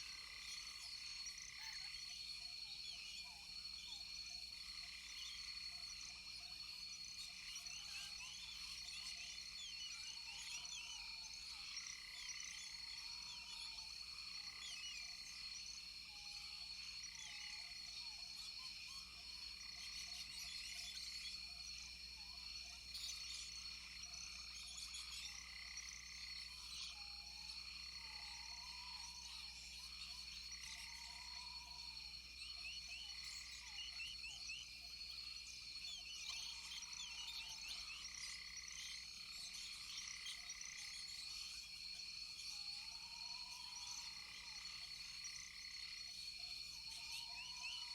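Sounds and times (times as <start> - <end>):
insect high-pitched drone: 0.0 - 47.9.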